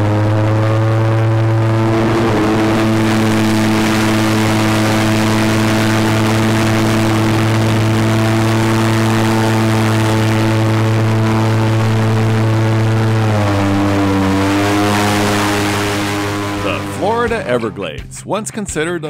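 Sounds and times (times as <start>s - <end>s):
airboat engine and propeller drone: 0.0s - 18.0s.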